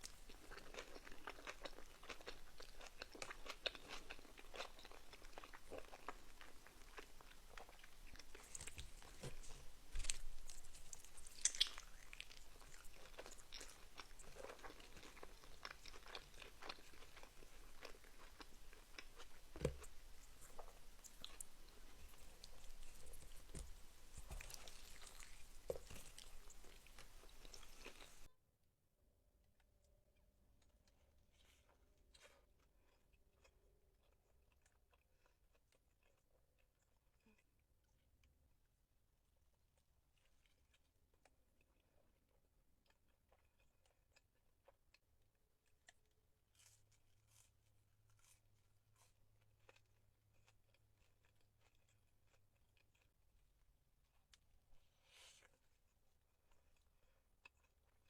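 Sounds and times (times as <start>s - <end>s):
chewing and biting food: 0.0s - 28.3s, 30.6s - 38.4s, 39.7s - 58.0s.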